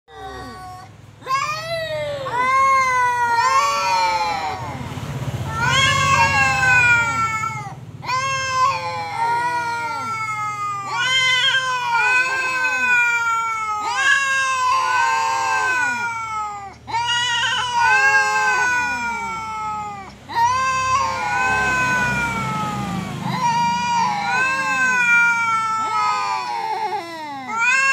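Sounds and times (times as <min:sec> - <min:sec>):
cats yowling: 0:00.1 - 0:27.9.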